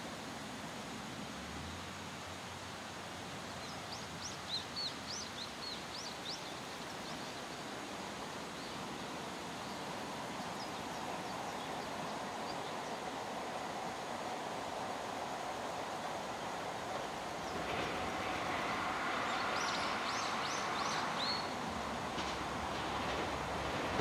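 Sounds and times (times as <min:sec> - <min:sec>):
faint hum of electric train: 0:00.0 - 0:24.0
outdoor background noise: 0:00.0 - 0:24.0.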